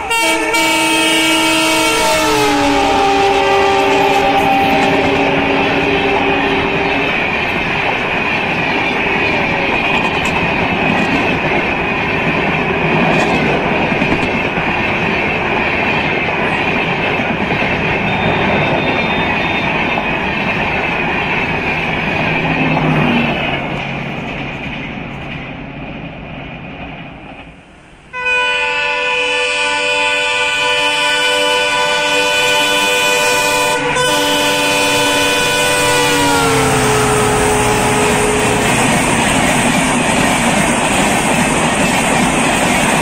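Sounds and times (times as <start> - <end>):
train wheels roaring on rails: 0.0 - 43.0.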